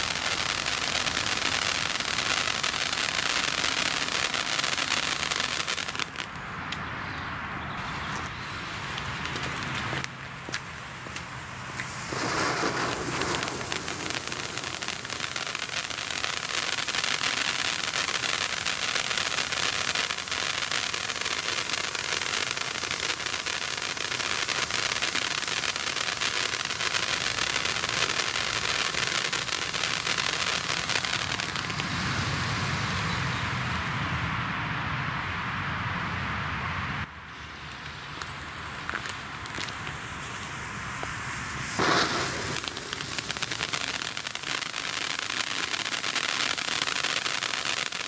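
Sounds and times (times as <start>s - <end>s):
firework fountains hissing: 0.0s - 6.4s, 7.8s - 34.2s, 37.2s - 48.0s.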